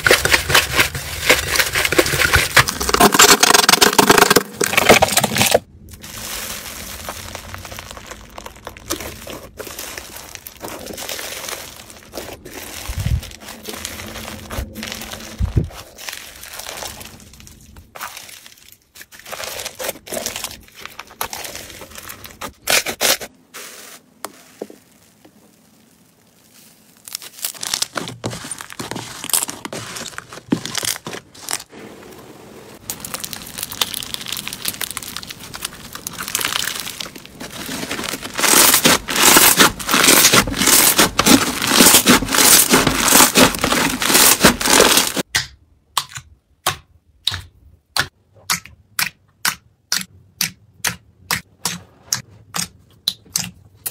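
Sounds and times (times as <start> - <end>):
foam-bead slime crackling: 0.0 - 45.3.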